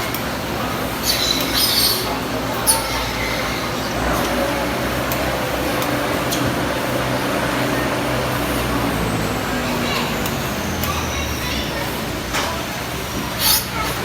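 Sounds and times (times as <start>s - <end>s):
milking machine vacuum pump hum: 0.0s - 14.0s.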